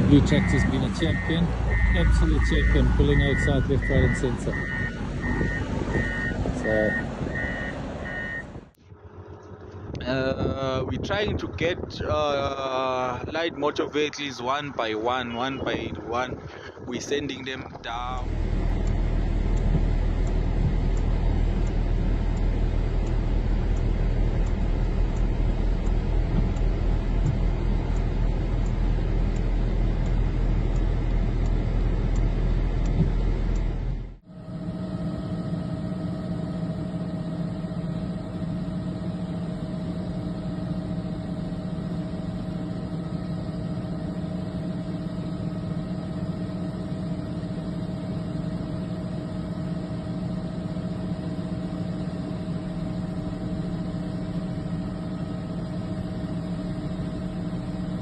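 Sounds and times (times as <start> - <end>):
engine hum with pitched drone: 0.0 - 58.0
vehicle engine and road rumble: 0.0 - 58.0.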